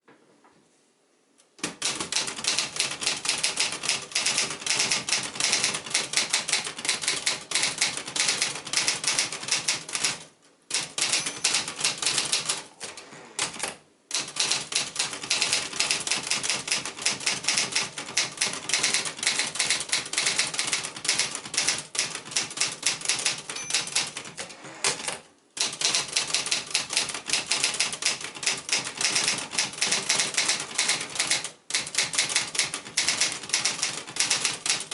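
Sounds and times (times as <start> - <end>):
manual typewriter keystrokes: 1.6 - 34.9.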